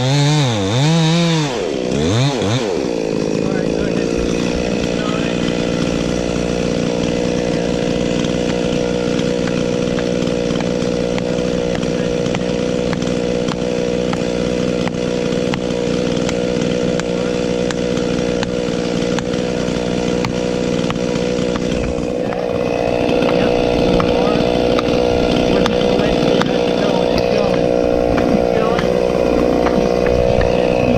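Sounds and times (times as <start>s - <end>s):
chainsaw running at high speed: 0.0s - 30.9s.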